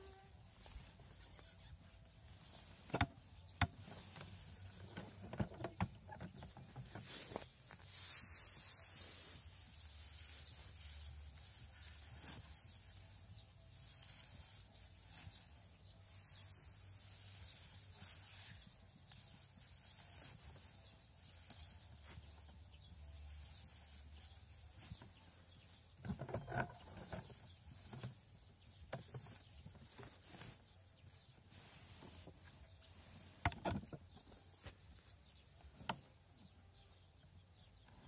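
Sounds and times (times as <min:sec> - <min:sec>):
dry hay rustling: 0:00.0 - 0:38.0.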